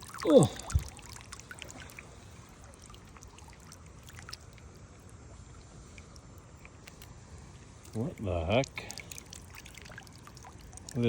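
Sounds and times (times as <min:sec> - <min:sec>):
faint river water trickling: 0:00.0 - 0:11.0
small drips: 0:00.0 - 0:11.0.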